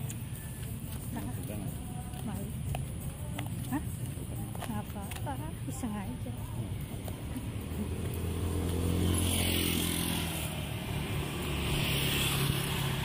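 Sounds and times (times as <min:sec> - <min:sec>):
vehicles passing on street: 0:00.0 - 0:13.0.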